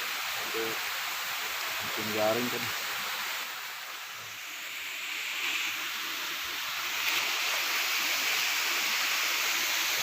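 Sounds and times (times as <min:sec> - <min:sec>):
flowing stream water: 0:00.0 - 0:10.0.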